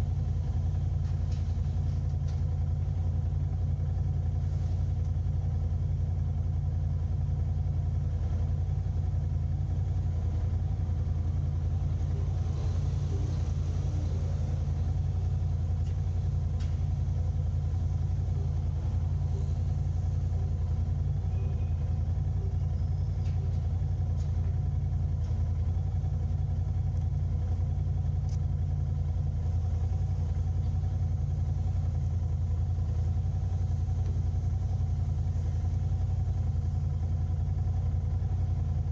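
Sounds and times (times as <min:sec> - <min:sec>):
engine and road noise: 0:00.0 - 0:38.9.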